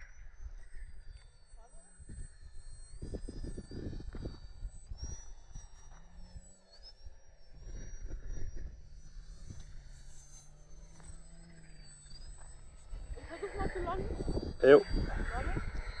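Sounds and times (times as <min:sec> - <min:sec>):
wind rumbling on microphone: 0:00.0 - 0:06.5, 0:07.4 - 0:16.0
model plane motor whining: 0:00.0 - 0:16.0.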